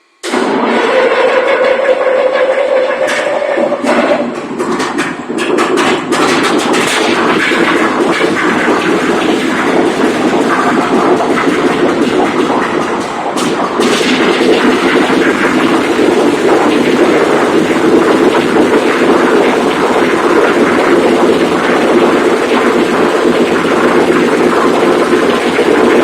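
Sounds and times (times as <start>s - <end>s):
large engine generator running: 0.0s - 26.0s.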